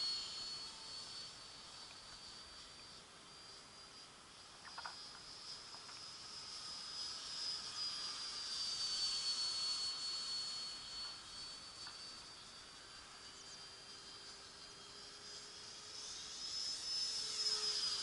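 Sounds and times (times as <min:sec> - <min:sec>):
model aircraft motor whine: 0:00.0 - 0:18.0.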